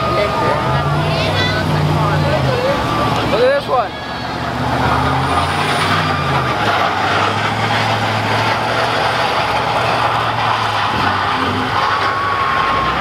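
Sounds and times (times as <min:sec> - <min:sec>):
truck engine running: 0:00.0 - 0:13.0
metal scraping on asphalt: 0:02.2 - 0:13.0.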